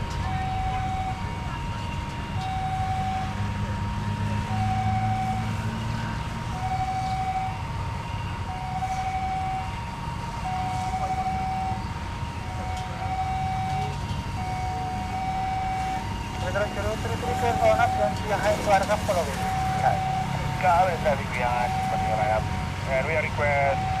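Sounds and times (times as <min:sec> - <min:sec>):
two-tone siren: 0:00.0 - 0:24.0
vehicle engine rumble: 0:00.0 - 0:24.0.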